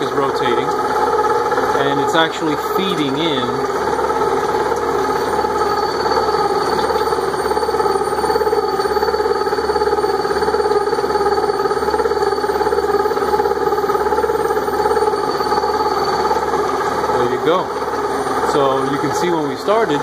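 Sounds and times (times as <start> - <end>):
gear cutting machine whirring: 0.0 - 20.0.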